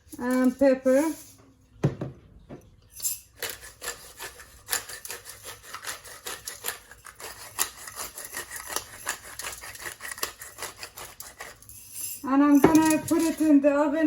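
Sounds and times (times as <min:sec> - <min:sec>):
pepper mill grinding: 0:00.0 - 0:01.3, 0:03.0 - 0:13.6.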